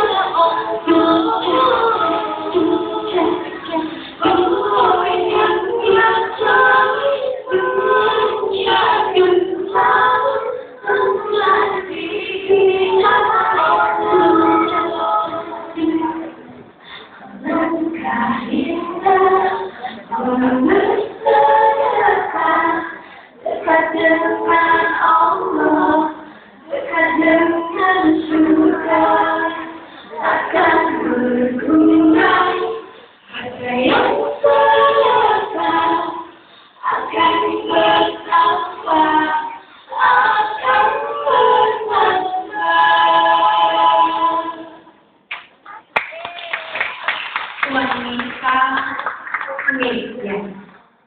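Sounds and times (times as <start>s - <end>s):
choir singing: 0.0s - 45.0s.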